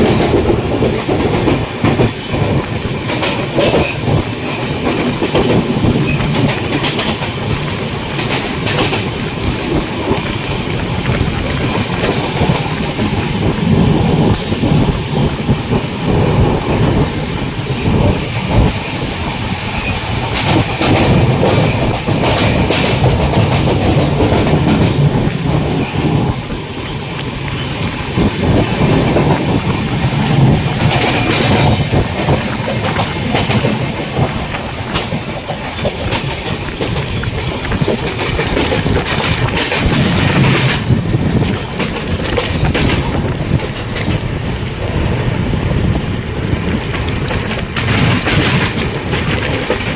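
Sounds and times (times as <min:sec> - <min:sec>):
train wheels rumbling on track: 0:00.0 - 0:49.9
wheels clacking over rail joints: 0:00.0 - 0:49.9.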